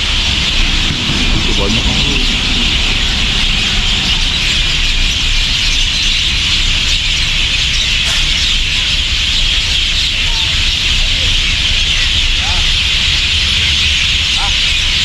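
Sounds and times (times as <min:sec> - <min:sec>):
flock of birds chirping: 0:00.0 - 0:15.0
low rumble of traffic: 0:00.0 - 0:15.0.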